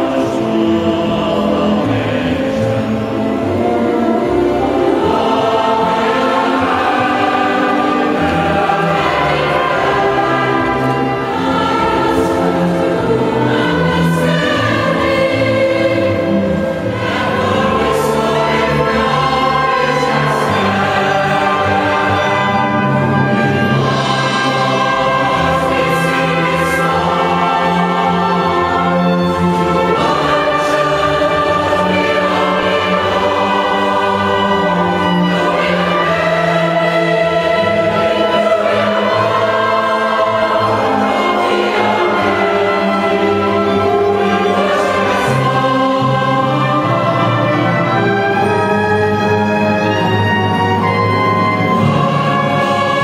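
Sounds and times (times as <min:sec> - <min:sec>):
mixed choir singing: 0:00.0 - 0:53.0
violins playing: 0:00.0 - 0:53.0.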